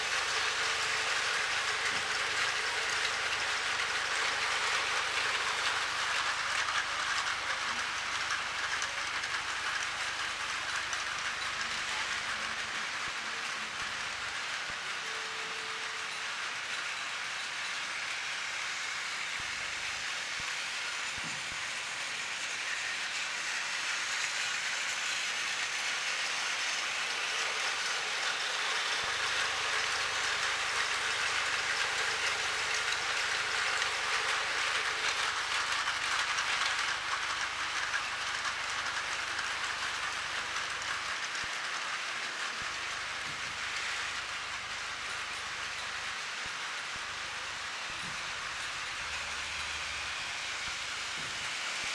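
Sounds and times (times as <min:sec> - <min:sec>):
toy train motor whirring: 0:00.0 - 0:51.9
toy train wheels clattering: 0:00.0 - 0:51.9.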